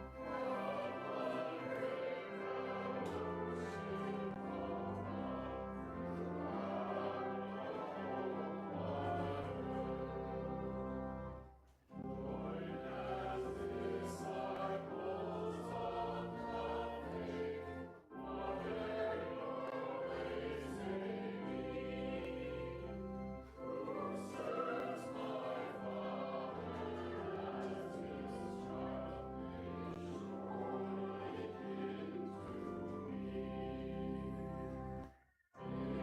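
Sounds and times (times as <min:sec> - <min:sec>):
congregation singing a hymn: 0:00.0 - 0:36.0
organ playing: 0:00.0 - 0:36.0.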